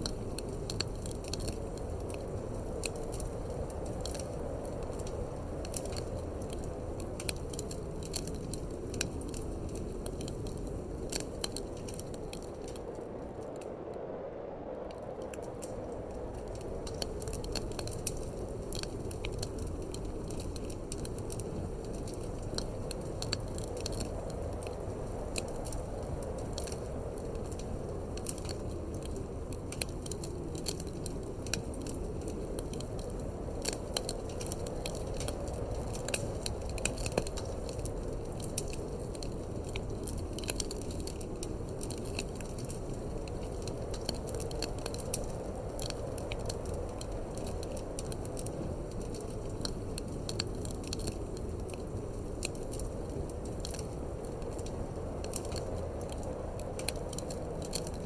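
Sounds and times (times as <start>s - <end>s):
wood fire crackling and popping: 0.0s - 13.8s, 14.9s - 58.0s
low rush of wind: 0.0s - 58.0s.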